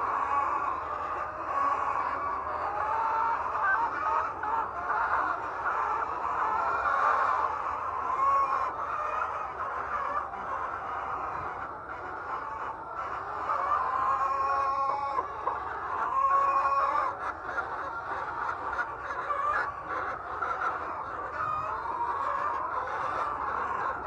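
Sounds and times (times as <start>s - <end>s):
chickens clucking and calling: 0.0s - 24.0s.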